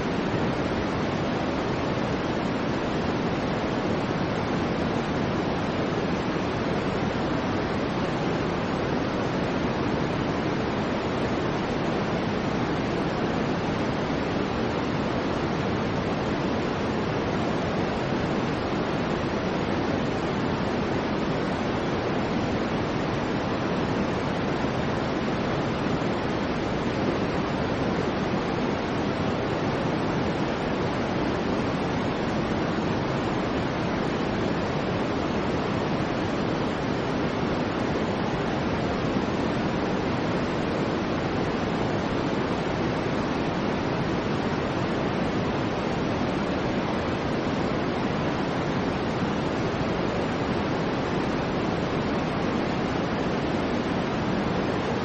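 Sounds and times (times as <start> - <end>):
steady deep white noise hiss: 0.0 - 55.0.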